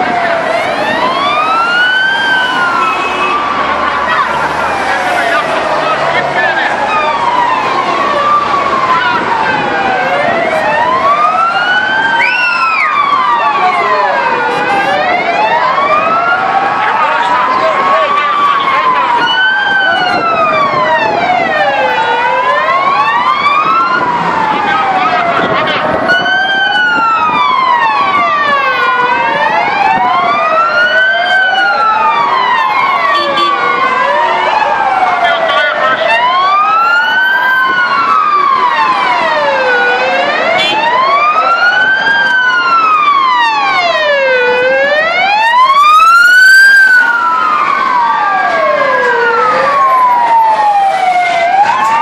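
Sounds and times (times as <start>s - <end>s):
high-pitched siren: 0.0s - 52.0s
sirens wailing: 0.0s - 52.0s.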